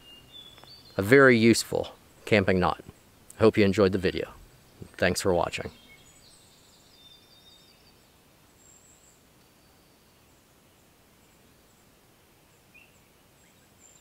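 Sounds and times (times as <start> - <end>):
distant bird chirps: 0.0 - 14.0
faint outdoor ambience: 0.0 - 14.0.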